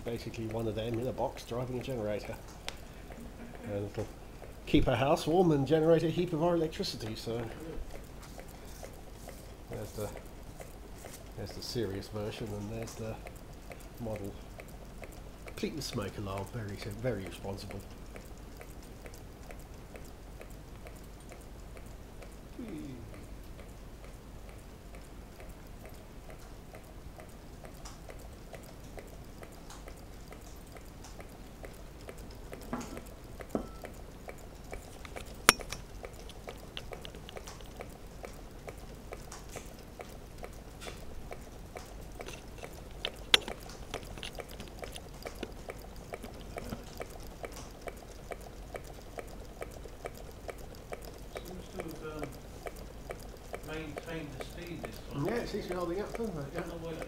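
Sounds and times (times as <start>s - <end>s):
ticking of small metal parts: 0.0s - 57.0s.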